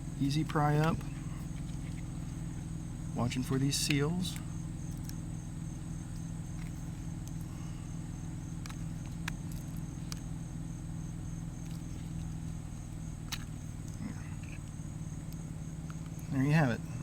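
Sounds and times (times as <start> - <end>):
crickets chirring: 0.0 - 17.0
low steady hum: 0.0 - 17.0.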